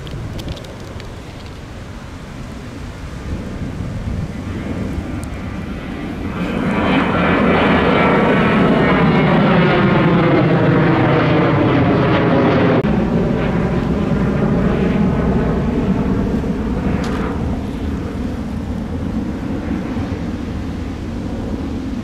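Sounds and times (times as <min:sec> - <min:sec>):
jet airliner engines climbing overhead: 0:00.0 - 0:22.0.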